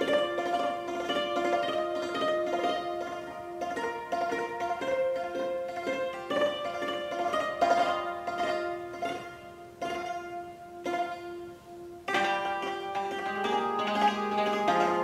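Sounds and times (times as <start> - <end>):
plucked hammered dulcimer strings: 0.0 - 15.0.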